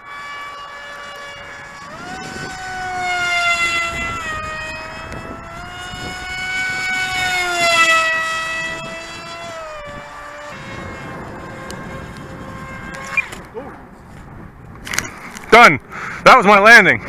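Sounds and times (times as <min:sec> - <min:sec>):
model airplane motor whining: 0:00.0 - 0:13.9.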